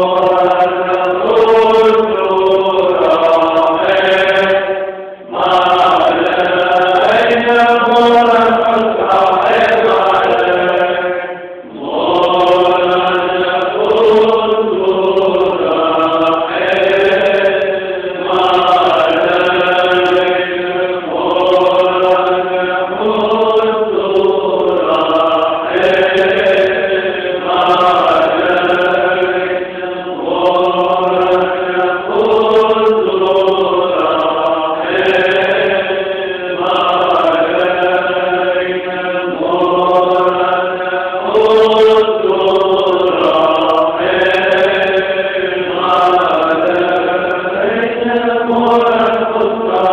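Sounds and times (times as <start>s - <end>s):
monks chanting: 0.0s - 49.9s.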